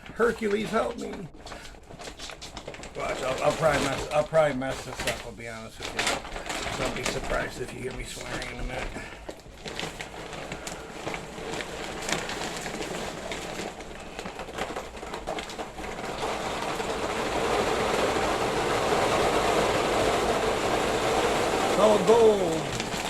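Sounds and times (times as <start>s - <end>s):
dry kibble pouring into container: 0.0s - 23.0s.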